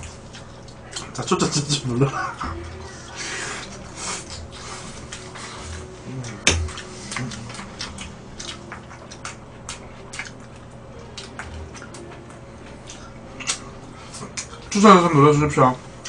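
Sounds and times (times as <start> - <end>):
chewing and mouth noises: 0.0 - 15.1.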